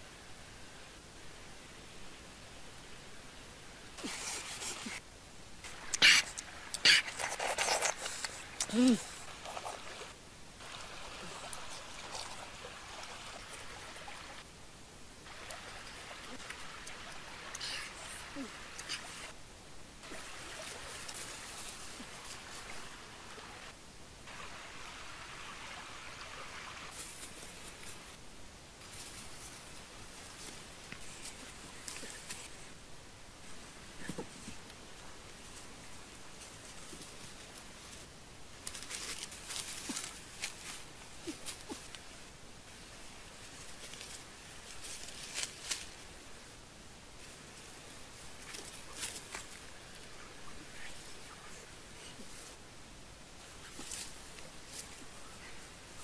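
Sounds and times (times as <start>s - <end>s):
leaves and branches rustling: 0.0s - 56.0s
river water flowing: 5.6s - 19.4s, 20.0s - 56.0s.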